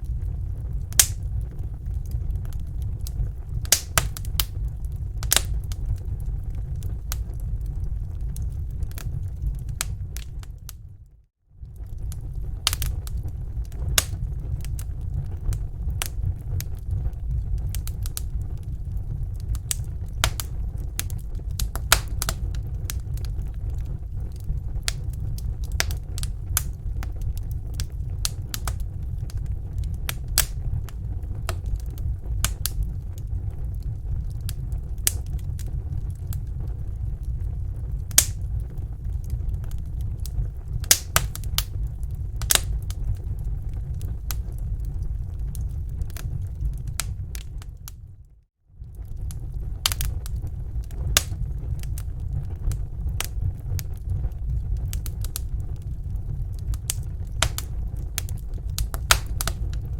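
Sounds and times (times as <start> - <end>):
campfire wood crackling and popping: 0.0 - 48.2, 48.8 - 59.9
low fire rumble: 0.0 - 59.9.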